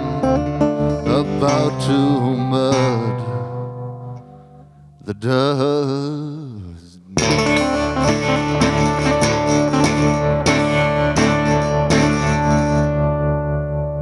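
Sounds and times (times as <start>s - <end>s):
blues guitar chords: 0.0s - 6.2s, 7.2s - 14.0s.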